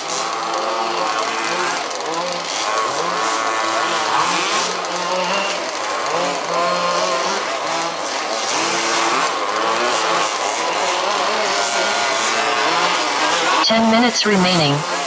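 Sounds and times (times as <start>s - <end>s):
small two-stroke engines whining: 0.0s - 15.0s.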